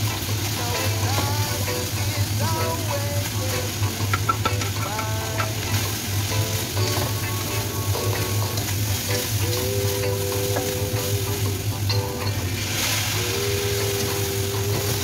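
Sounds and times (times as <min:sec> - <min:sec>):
hot oil sizzling in a wok: 0:00.0 - 0:15.0.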